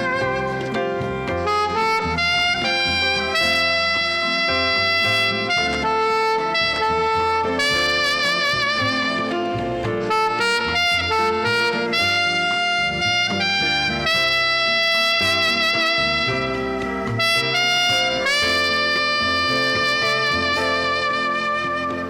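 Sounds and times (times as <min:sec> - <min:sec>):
alto saxophone melody: 0:00.0 - 0:22.0
backing track with bass line: 0:00.0 - 0:22.0.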